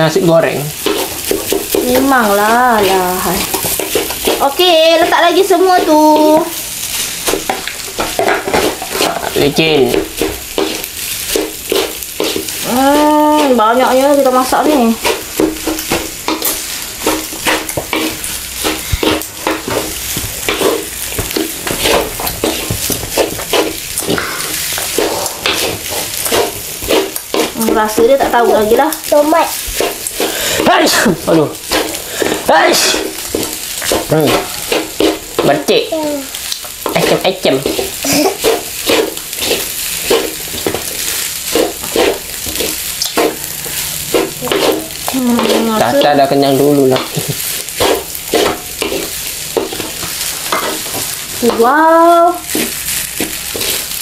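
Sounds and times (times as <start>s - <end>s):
frying sizzle: 0.0s - 54.0s
spatula scraping wok: 0.0s - 54.0s.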